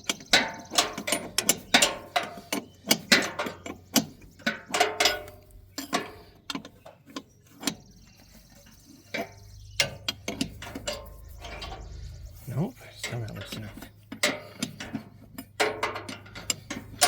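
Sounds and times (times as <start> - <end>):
hand tools clicking on metal: 0.0 - 12.2, 12.9 - 17.0.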